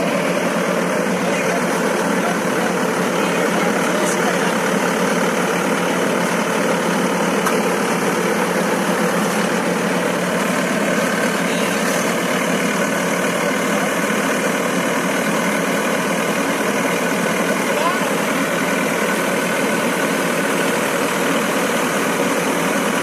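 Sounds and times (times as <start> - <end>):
diesel engine running steadily: 0.0 - 23.0.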